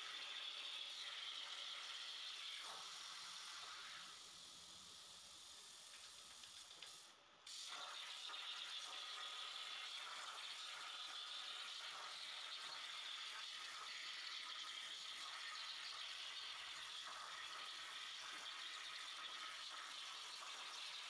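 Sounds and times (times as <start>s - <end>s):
plasma torch hissing through steel: 0.0s - 21.0s.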